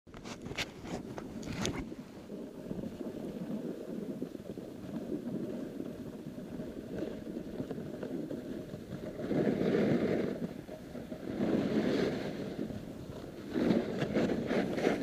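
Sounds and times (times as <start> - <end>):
wind on microphone: 0.1 - 15.0
snowboard sliding through snow: 1.8 - 15.0.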